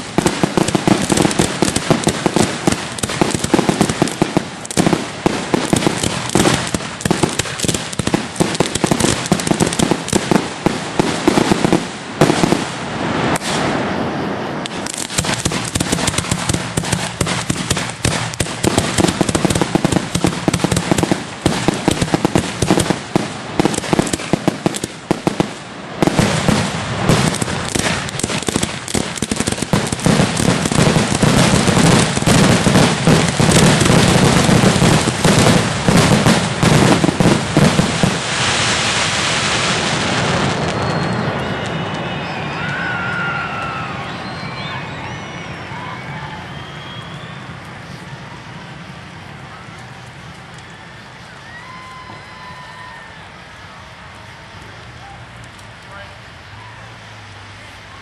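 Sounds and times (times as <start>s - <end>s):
fireworks booming and cracking: 0.0s - 53.0s.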